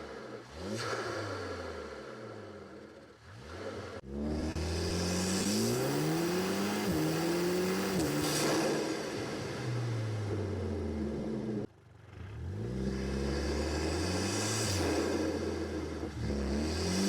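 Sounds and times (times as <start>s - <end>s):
turbocharged car engine accelerating: 0.0s - 17.0s.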